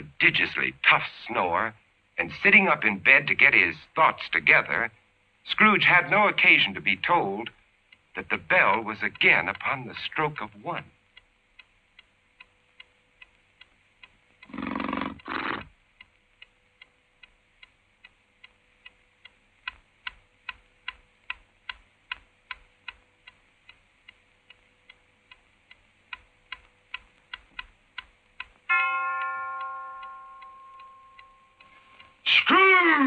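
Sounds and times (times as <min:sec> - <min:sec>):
clock ticking: 0:05.5 - 0:33.0.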